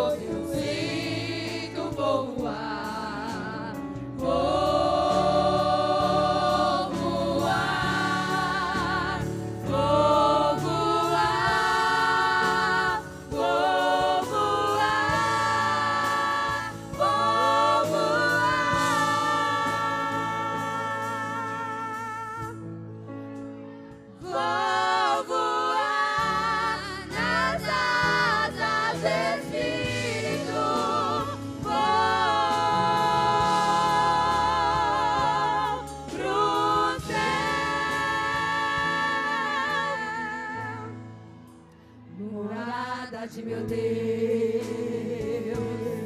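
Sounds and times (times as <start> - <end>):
women singing hymn in harmony: 0.0 - 22.7, 23.9 - 41.4, 42.1 - 46.0.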